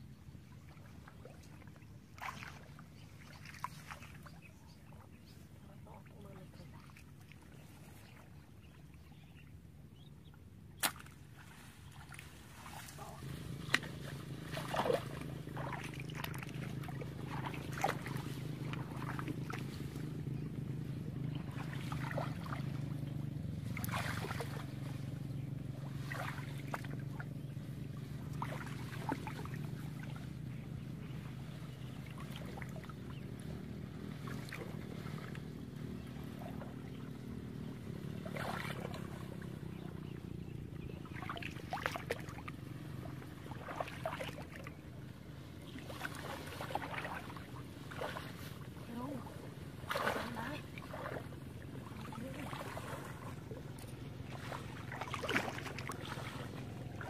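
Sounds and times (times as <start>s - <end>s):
splashes of wading in water: 0.0s - 57.0s
steady low hum: 0.0s - 57.0s.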